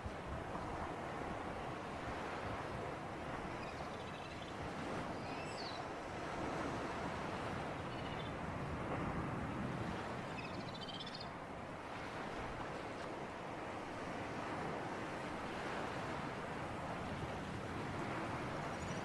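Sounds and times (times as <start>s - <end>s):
sea breeze: 0.0s - 19.0s
surf at the shore: 0.0s - 19.0s.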